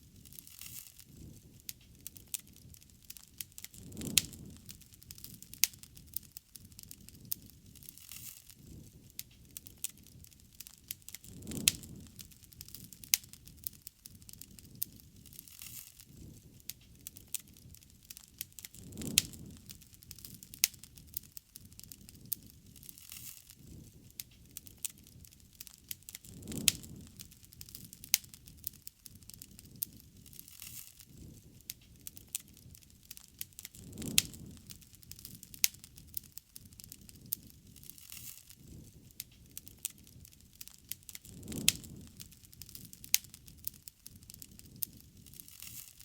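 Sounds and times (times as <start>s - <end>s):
bonfire crackling and popping: 0.0s - 46.0s.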